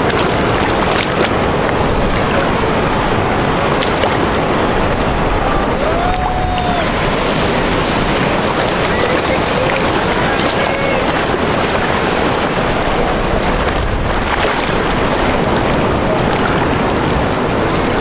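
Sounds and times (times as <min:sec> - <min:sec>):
water sloshing and splashing: 0:00.0 - 0:18.0
wind buffeting microphone: 0:00.0 - 0:18.0.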